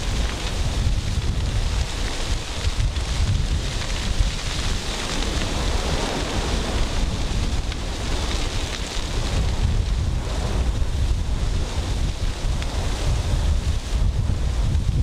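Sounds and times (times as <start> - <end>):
fire crackles: 0.0 - 15.0
fire flames rushing: 0.0 - 15.0
wind buffeting microphone: 0.0 - 15.0.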